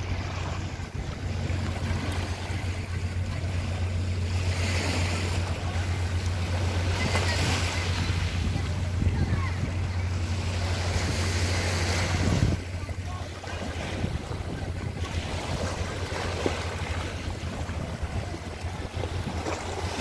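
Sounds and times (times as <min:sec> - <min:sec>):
small waves washing ashore: 0:00.0 - 0:20.0
wind rumbling on microphone: 0:00.0 - 0:20.0.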